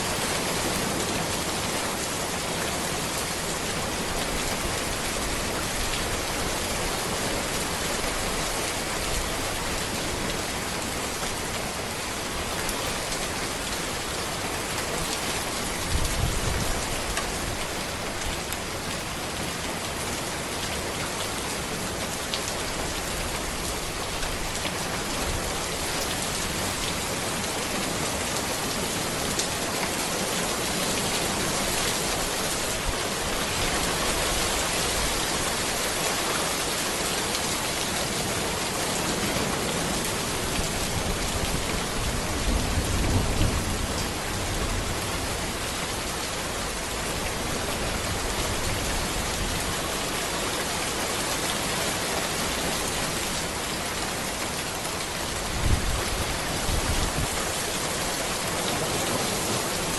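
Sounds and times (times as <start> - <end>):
rain falling on road and trees: 0.0 - 59.9.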